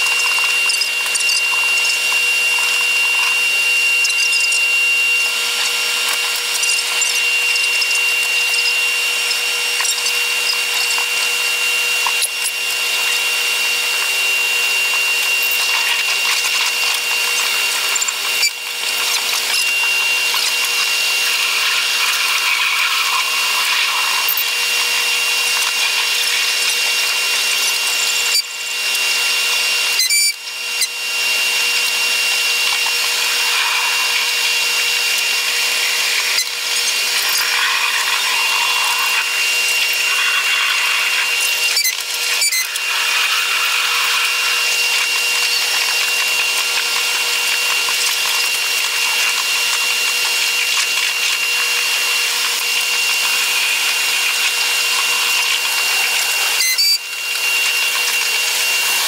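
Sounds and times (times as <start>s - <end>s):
whine tones: 0.0s - 29.2s, 29.8s - 46.6s, 50.6s - 59.0s.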